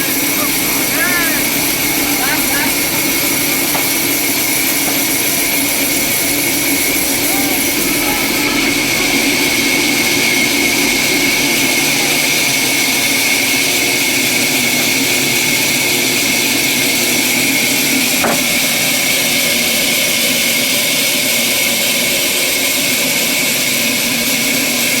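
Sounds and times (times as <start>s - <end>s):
power tool whining: 0.0s - 22.1s.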